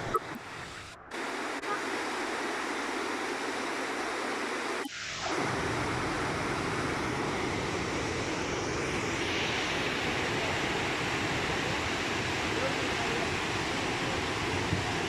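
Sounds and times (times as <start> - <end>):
rushing floodwater roar: 0.0 - 15.0.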